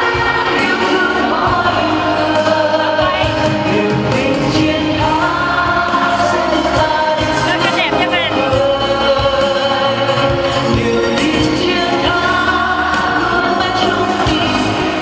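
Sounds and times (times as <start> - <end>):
amplified backing music: 0.0 - 15.0
voices singing pop song: 0.0 - 15.0.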